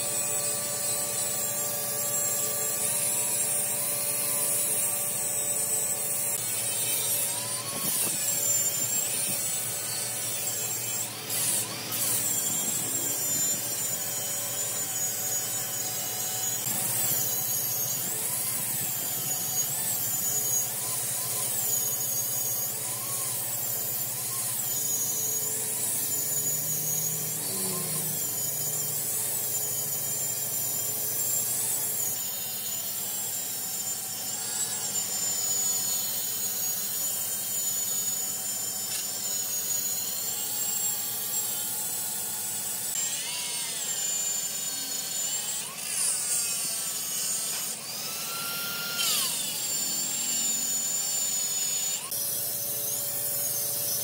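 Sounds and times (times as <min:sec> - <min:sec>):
power tool motor whine: 0:00.0 - 0:54.0.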